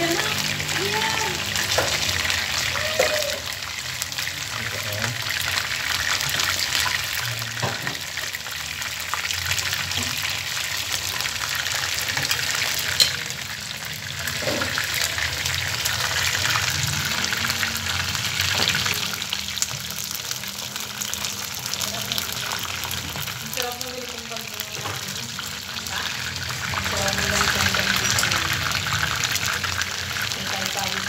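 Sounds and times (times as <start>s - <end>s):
chicken sizzling in oil: 0.0s - 31.0s.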